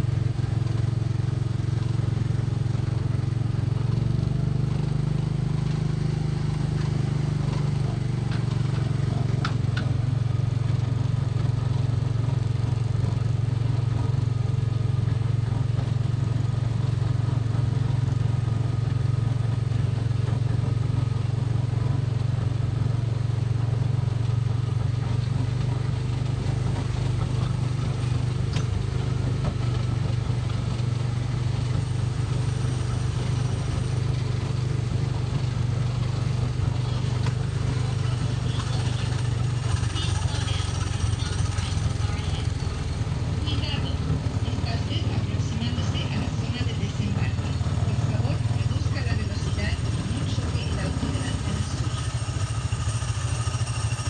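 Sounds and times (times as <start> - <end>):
small gasoline engine droning: 0.0 - 54.0.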